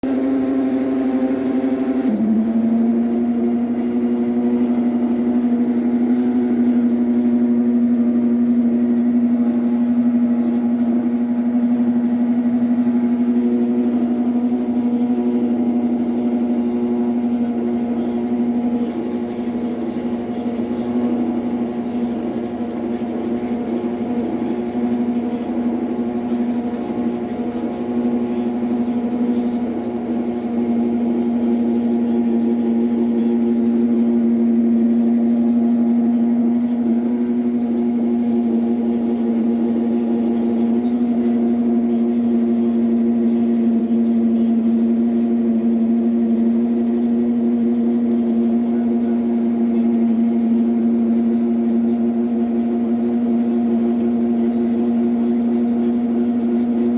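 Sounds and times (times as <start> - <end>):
washing machine humming: 0.0 - 56.9.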